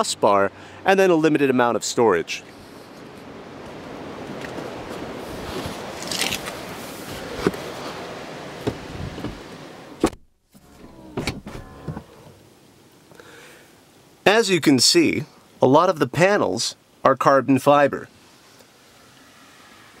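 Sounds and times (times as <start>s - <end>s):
road and wind noise in car cabin: 0.0s - 12.9s, 16.0s - 20.0s.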